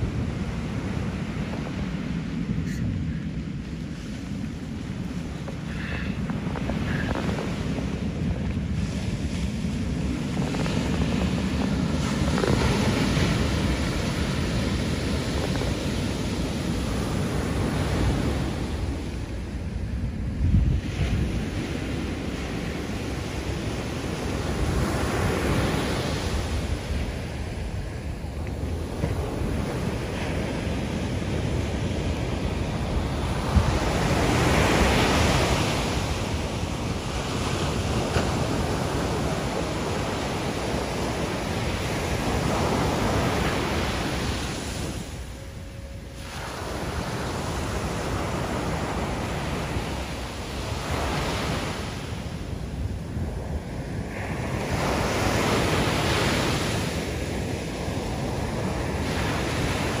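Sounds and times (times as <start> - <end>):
ocean surf breaking on beach: 0.0 - 60.0
wind rumbling on microphone: 0.0 - 60.0.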